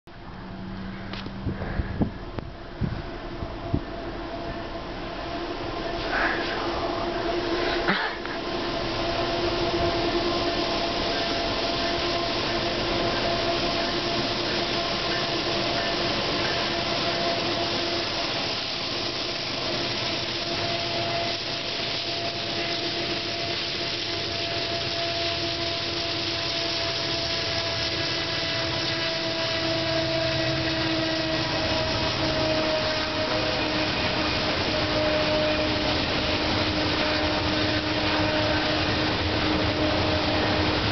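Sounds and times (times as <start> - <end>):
constant whine: 0.1 - 40.9
locomotive engine drone: 0.1 - 40.9
train cars rolling on rails: 0.1 - 40.9.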